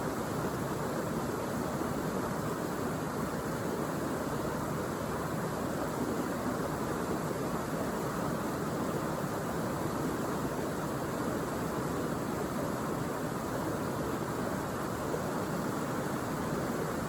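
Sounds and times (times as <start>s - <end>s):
rushing flowing water: 0.0s - 17.0s.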